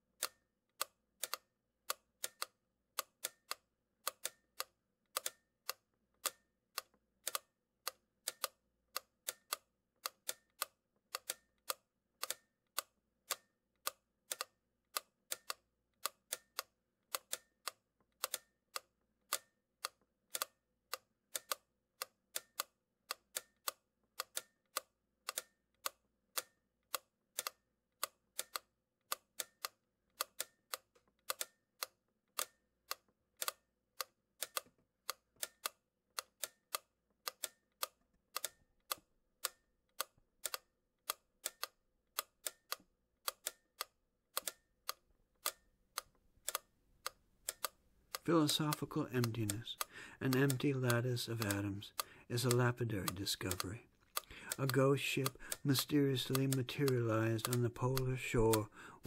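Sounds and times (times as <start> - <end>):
sharp mechanical clicks: 0.2 - 59.0.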